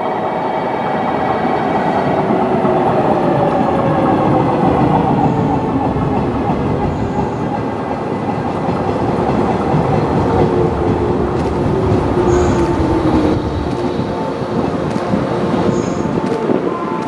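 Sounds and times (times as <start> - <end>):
electric train running and slowing: 0.0 - 17.0.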